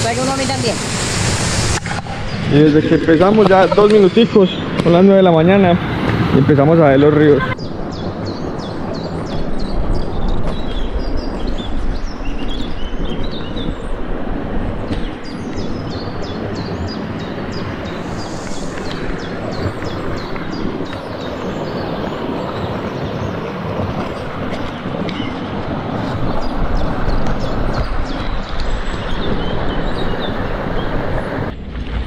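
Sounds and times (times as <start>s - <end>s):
steady rushing noise: 0.0s - 32.0s
birds chirping: 1.8s - 31.7s.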